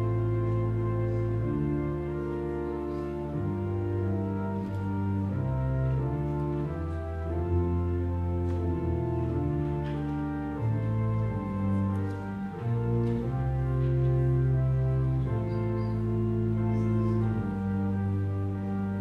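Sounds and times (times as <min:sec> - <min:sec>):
organ pedal bass notes: 0:00.0 - 0:19.0
pipe organ chords: 0:00.0 - 0:19.0.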